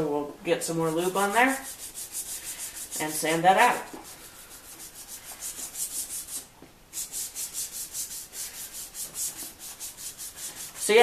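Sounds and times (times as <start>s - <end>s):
sanding pad scrubbing plastic: 0.7s - 6.4s, 7.0s - 11.0s.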